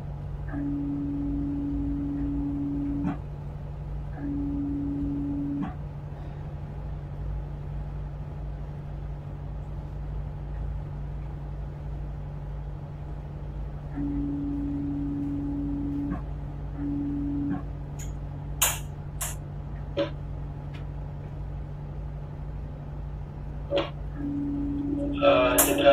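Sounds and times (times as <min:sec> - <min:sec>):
diesel engine droning: 0:00.0 - 0:25.9
steady humming tone: 0:00.0 - 0:25.9.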